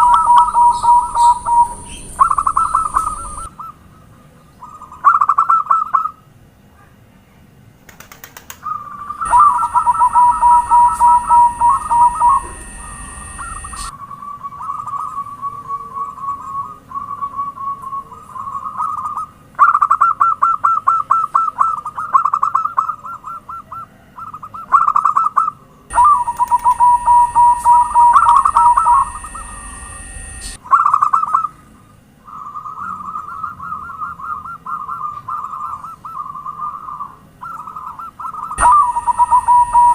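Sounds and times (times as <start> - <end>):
doves trilled cooing: 0.0 - 6.2, 8.0 - 39.9.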